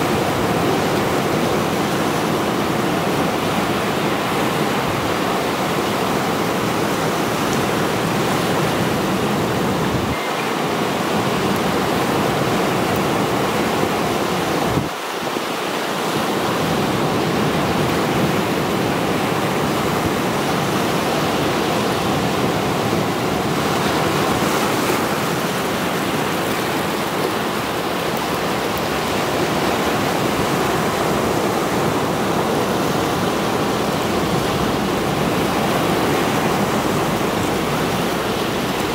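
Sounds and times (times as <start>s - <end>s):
waves breaking on rocky shore: 0.0s - 38.9s.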